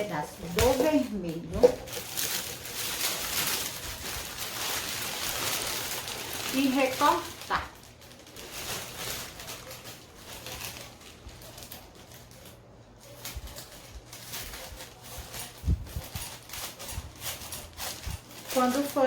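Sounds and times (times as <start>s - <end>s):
scissors cutting paper: 0.0s - 6.1s, 9.2s - 19.0s
paper crackling and rustling: 0.0s - 19.0s.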